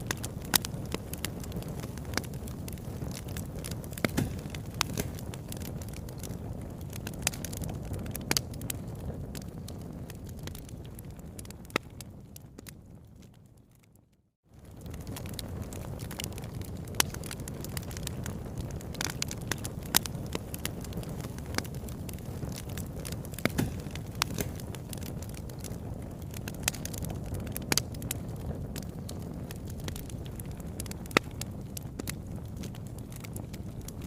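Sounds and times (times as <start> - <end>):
fire crackling and popping: 0.0 - 34.0
low rumble of flames: 0.0 - 34.0.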